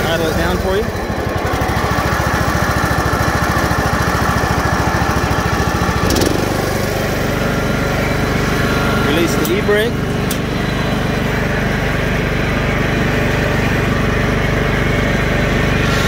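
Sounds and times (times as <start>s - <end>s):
mower engine idling: 0.0s - 16.0s.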